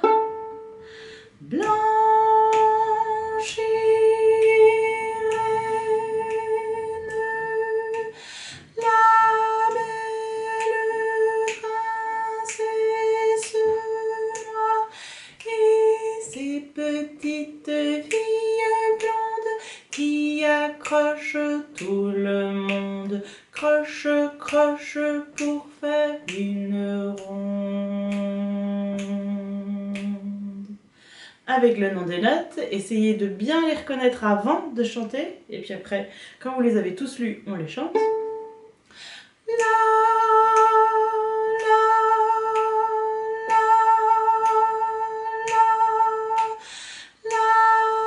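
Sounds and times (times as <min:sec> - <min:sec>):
woman singing: 0:00.0 - 0:48.0.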